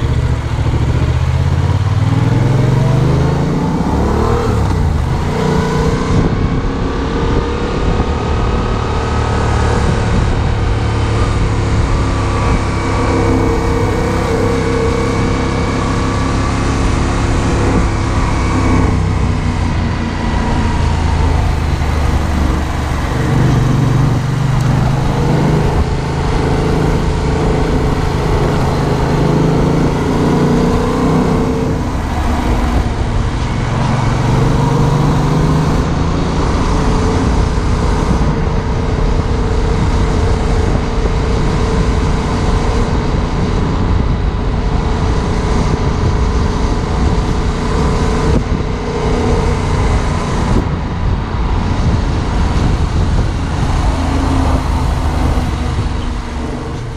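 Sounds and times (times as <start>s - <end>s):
motorcycle engine revving: 0.0s - 56.9s
wind and road noise: 0.0s - 56.9s.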